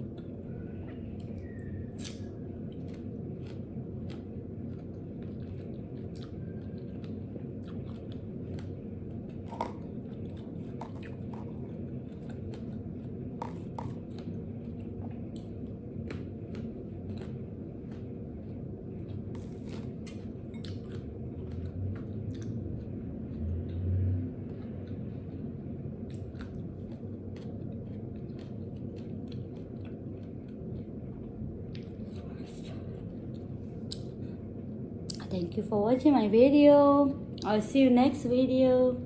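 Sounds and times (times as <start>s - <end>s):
low background hum: 0.0s - 39.0s
close-up chewing: 0.9s - 23.4s, 24.5s - 34.2s.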